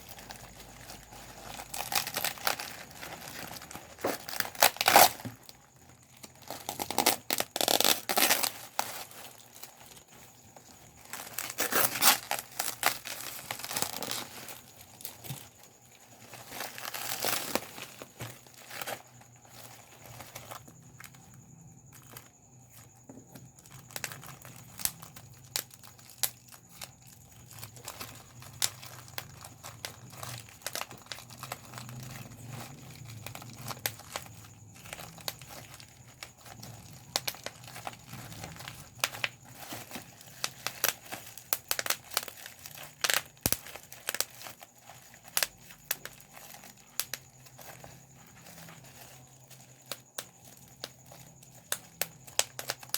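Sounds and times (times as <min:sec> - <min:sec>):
bubble wrap popping: 0:00.0 - 0:52.9
plastic sheet crinkling: 0:00.0 - 0:52.9.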